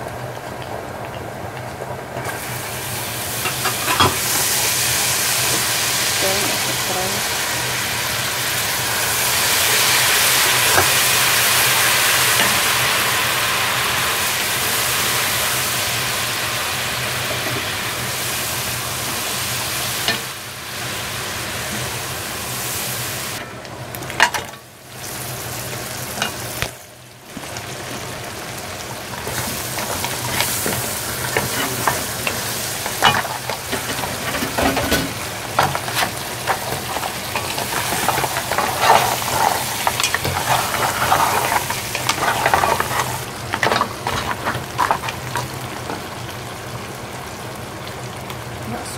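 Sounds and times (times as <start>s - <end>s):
sauce sizzling in a pot: 0.0s - 48.9s.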